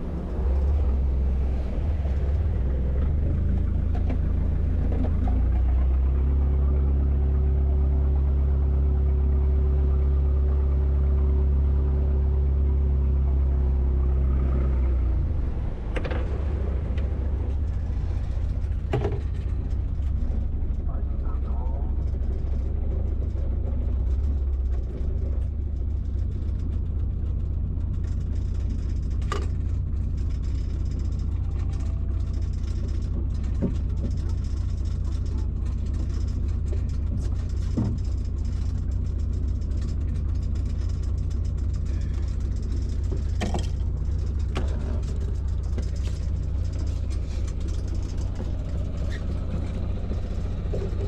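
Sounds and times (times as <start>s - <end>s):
boat engine droning: 0.0s - 51.0s.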